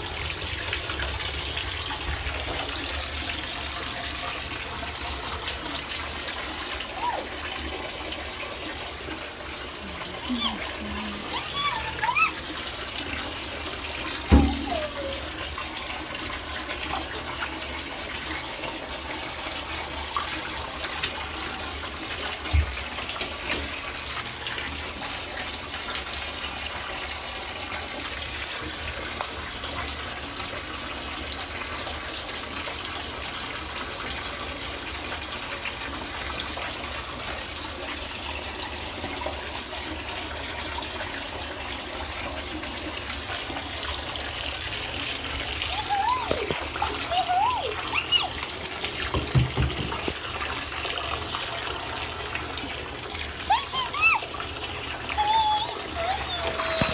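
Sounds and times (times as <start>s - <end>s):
tap water running into bathtub: 0.0s - 56.9s.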